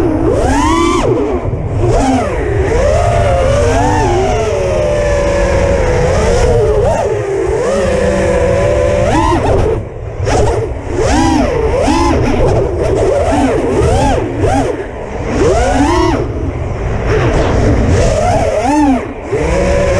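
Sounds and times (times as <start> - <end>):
drone motors whining: 0.0 - 19.9
wind rumble on microphone: 0.0 - 19.9.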